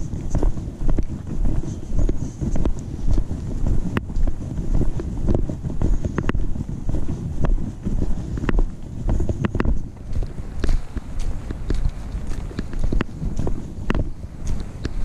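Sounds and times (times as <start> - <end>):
footsteps on dirt trail: 0.0 - 15.0
microphone rumble bumps: 0.0 - 15.0.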